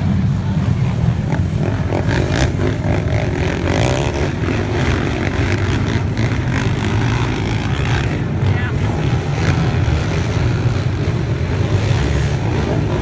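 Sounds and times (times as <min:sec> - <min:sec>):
quad engines droning: 0:00.0 - 0:13.0.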